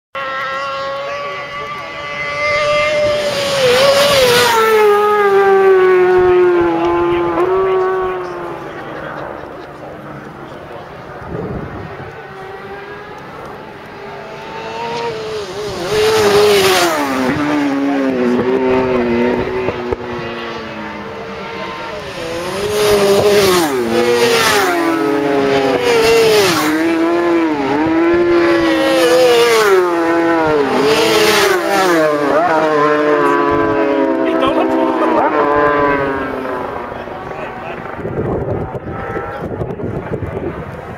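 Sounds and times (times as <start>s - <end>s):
racing motorcycles at full throttle: 0.2s - 40.9s.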